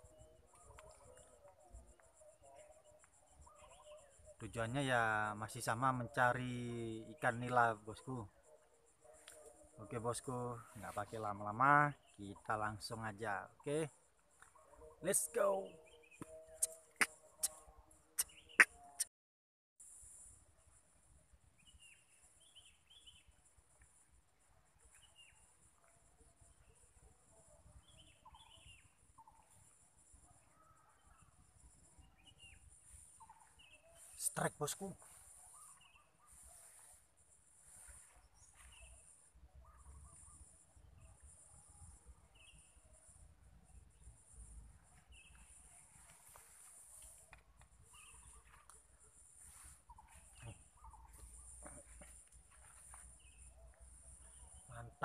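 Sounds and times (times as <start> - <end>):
faint bird chirps: 0.0 - 19.1, 19.8 - 55.0.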